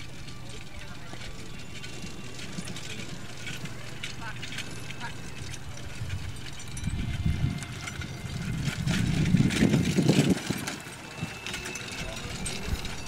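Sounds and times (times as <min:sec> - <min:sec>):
carriage wheels and hooves rumbling: 0:00.0 - 0:13.0.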